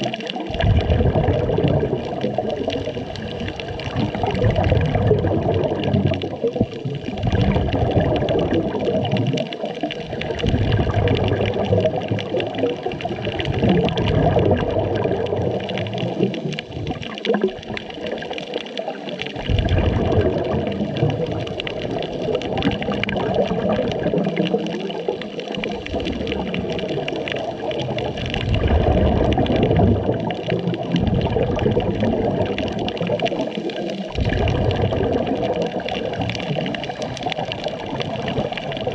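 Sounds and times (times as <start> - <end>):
underwater exhaled bubbles: 0.0 - 38.9.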